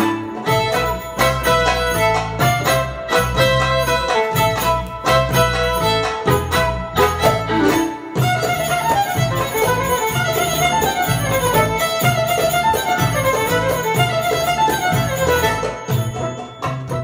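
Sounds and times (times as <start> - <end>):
band playing belly-dance music: 0.0 - 17.0
hand drum rhythm: 0.0 - 17.0
violin melody: 0.0 - 17.0.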